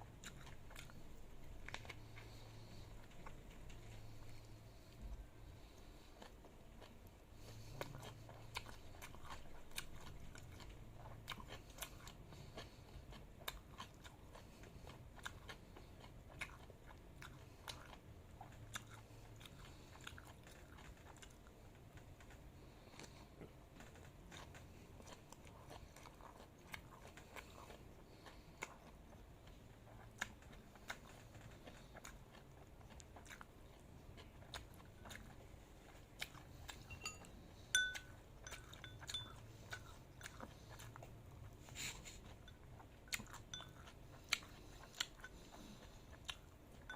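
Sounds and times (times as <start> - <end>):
low steady hum: 0.0 - 46.9
person chewing food: 0.0 - 46.9.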